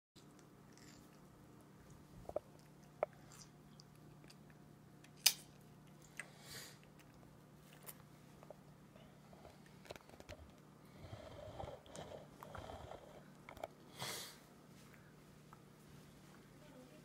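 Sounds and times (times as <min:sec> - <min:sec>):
child chewing wetly: 0:00.2 - 0:13.9.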